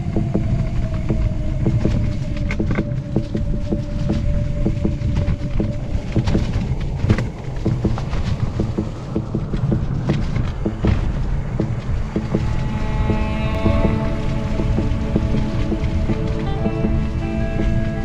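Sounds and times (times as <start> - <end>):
bike rattling and knocking: 0.0 - 18.0
heavy rumble and wind: 0.0 - 18.0.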